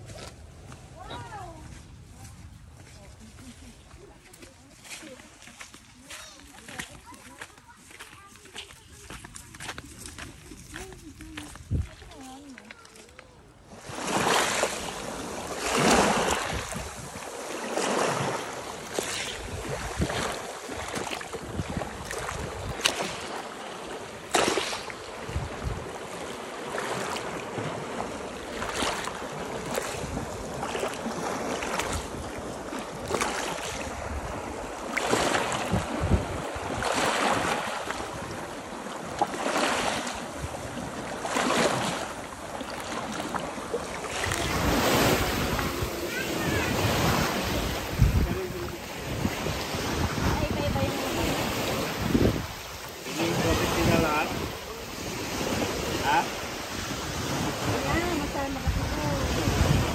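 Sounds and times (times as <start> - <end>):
waves splashing on rocks: 11.6 - 59.9.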